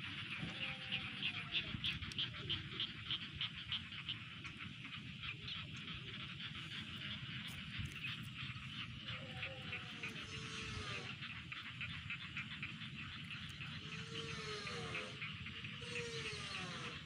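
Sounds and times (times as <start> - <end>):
frogs calling: 0.0 - 17.0.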